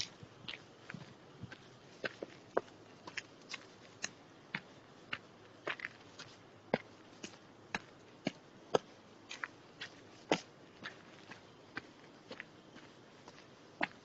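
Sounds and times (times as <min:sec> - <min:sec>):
footsteps on forest path: 0:00.0 - 0:14.0.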